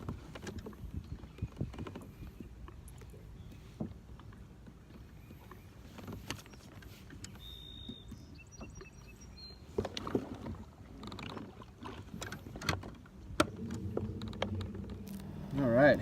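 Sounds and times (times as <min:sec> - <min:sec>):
knocks and clicks on hull: 0:00.0 - 0:09.0, 0:09.6 - 0:15.6
water lapping and splashing: 0:00.0 - 0:16.0.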